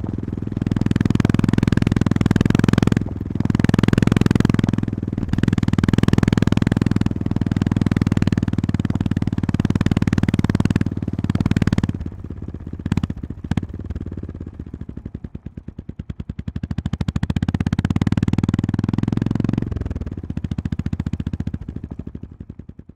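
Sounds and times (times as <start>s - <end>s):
motorcycle engine at low speed: 0.0s - 22.9s.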